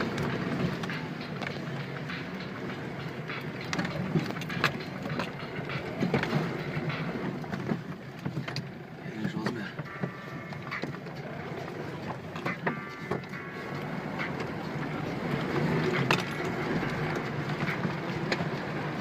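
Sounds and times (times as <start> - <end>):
knocks and clicks: 0.0 - 8.8, 9.4 - 11.2, 12.0 - 18.6
pickup engine running: 0.0 - 19.0.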